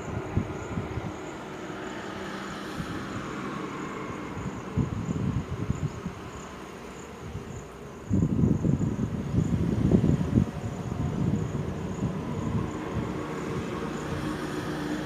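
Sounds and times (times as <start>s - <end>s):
insects chirping: 0.0s - 15.0s
roadside traffic: 0.0s - 15.0s.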